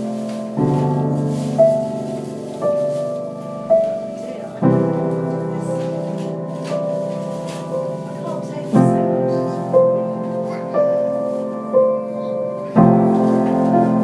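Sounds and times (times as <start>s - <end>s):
single-note piano melody: 0.0s - 14.0s
slow piano chords: 0.0s - 14.0s.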